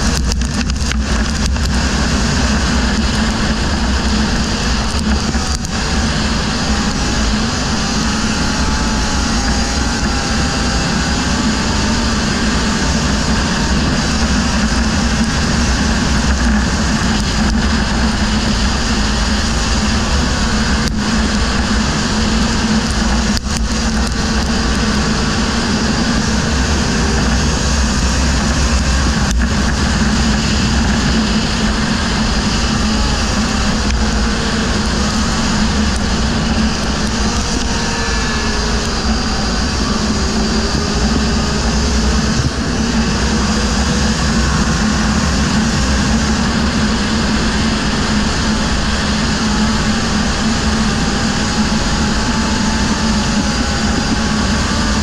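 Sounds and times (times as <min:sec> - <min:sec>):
quad engine running hard: 0:00.0 - 0:55.0
wind noise: 0:00.0 - 0:55.0.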